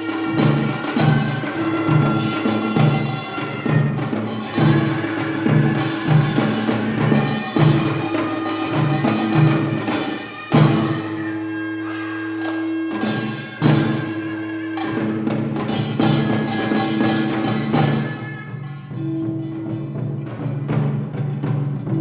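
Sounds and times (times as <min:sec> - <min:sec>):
drumming: 0:00.0 - 0:22.0.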